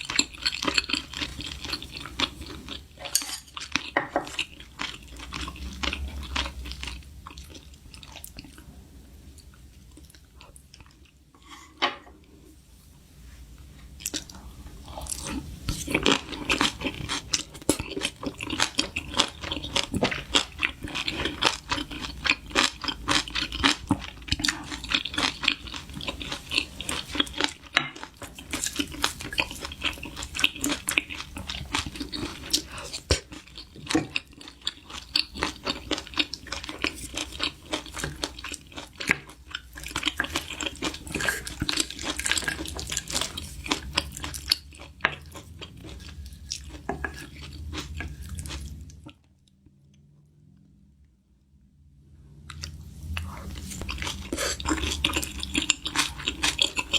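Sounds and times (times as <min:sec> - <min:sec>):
person crunching food: 0:00.0 - 0:08.6, 0:14.0 - 0:49.2, 0:52.5 - 0:56.9.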